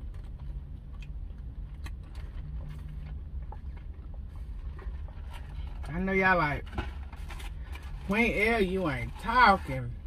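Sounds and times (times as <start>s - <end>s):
low car cabin hum: 0.0s - 10.0s.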